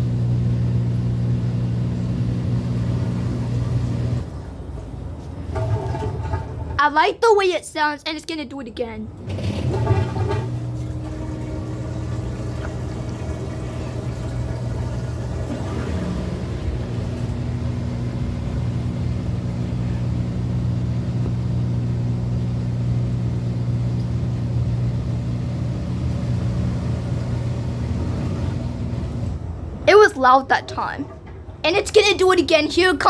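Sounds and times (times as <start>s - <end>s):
washer drain pump humming: 0.0s - 33.0s.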